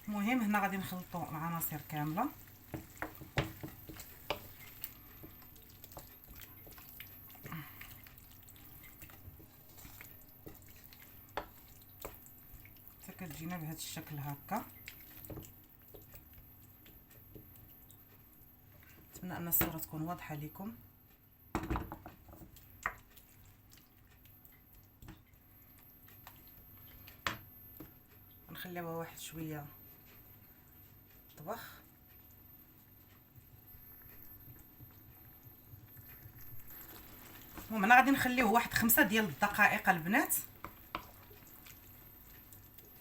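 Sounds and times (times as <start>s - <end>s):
spoon stirring food in a pan: 0.0s - 20.5s, 21.6s - 43.0s.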